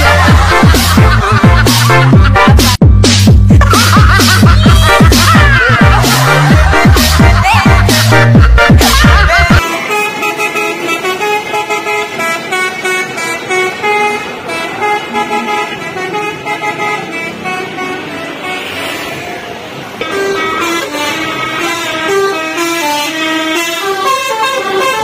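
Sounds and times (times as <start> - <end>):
multi-tone bus horn melody: 0.0 - 2.8, 3.4 - 25.0.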